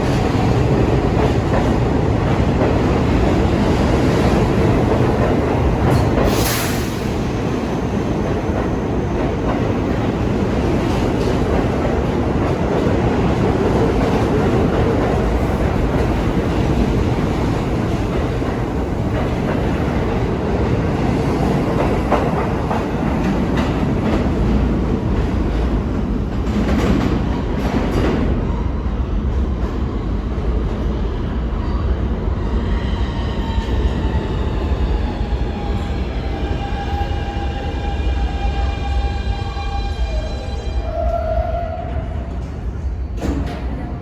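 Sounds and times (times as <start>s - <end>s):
subway train running on rails: 0.0s - 44.0s.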